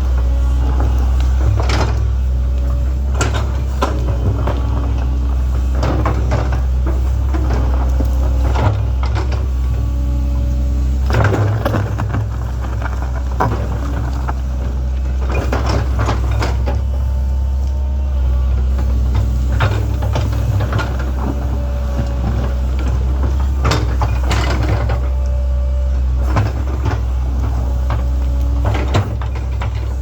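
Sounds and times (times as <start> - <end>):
excavator diesel engine running: 0.0 - 30.0
hydraulic whine: 0.0 - 30.0.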